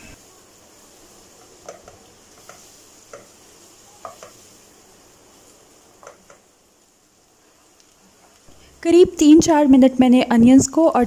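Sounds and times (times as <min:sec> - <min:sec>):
onions sizzling in a wok: 0:00.0 - 0:11.0.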